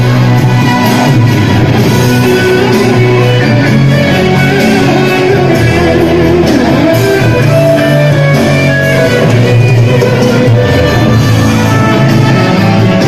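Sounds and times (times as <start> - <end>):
pop-rock guitar music over speakers: 0.0 - 13.0.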